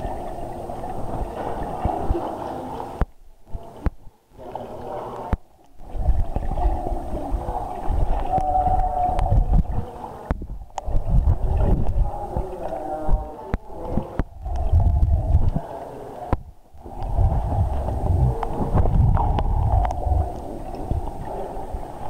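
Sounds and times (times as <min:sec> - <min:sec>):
swimmer splashing underwater: 0:00.0 - 0:22.0
water gurgling: 0:00.0 - 0:22.0.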